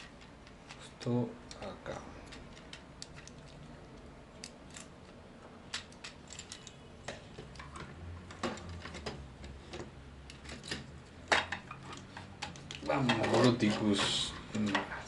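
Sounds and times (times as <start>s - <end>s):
plastic parts clicking and tapping: 0.0s - 14.9s.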